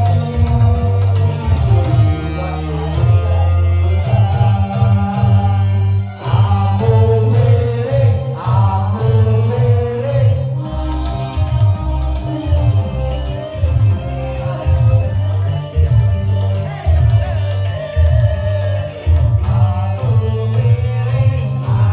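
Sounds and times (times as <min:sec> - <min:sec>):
person singing: 0:00.0 - 0:21.9
plucked guitar: 0:00.0 - 0:21.9
rhythmic bass: 0:00.0 - 0:21.9.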